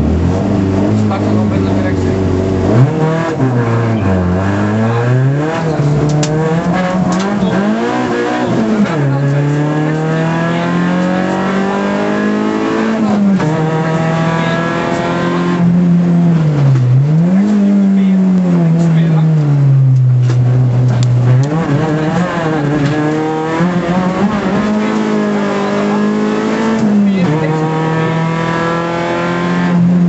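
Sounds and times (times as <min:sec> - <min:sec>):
rally car engine accelerating: 0:00.0 - 0:30.0.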